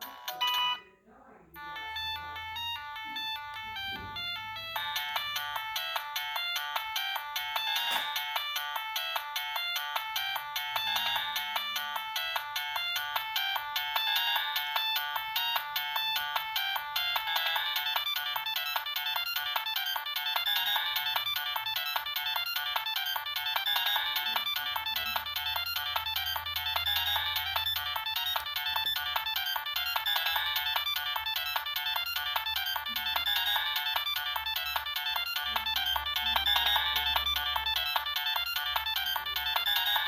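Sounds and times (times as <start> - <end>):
electronic phone ringtone melody: 0.0 - 0.9, 1.6 - 40.0.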